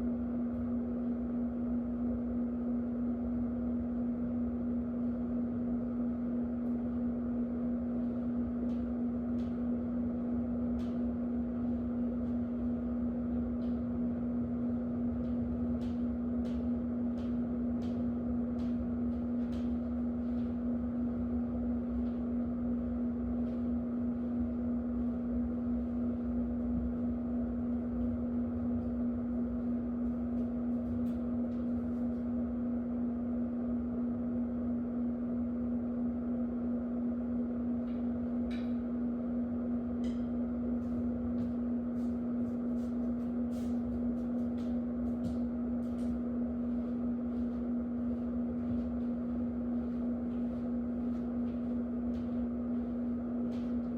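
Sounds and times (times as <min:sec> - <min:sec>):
electric fan motor hum: 0:00.0 - 0:53.9.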